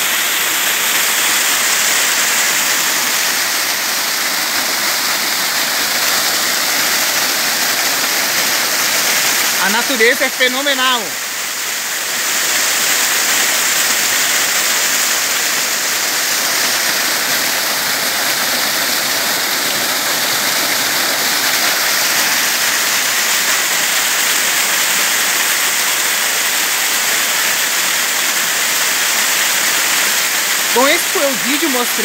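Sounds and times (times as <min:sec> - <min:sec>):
water splashing over rocks: 0:00.0 - 0:32.0.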